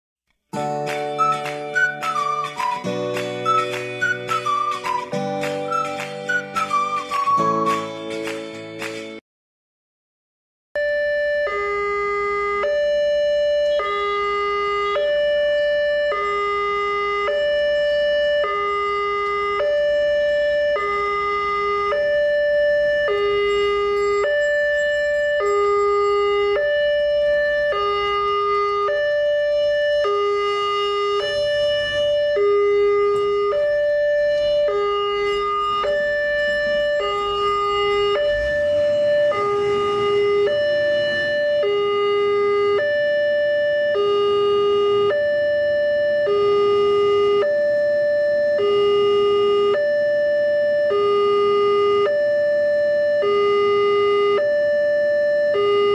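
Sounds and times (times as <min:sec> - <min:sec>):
level crossing two-tone alarm: 0:00.6 - 0:09.0, 0:10.8 - 0:55.9.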